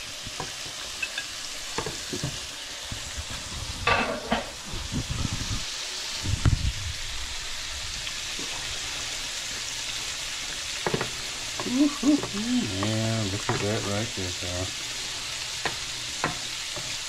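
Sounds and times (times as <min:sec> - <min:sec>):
fish sizzling in a skillet: 0:00.0 - 0:17.0.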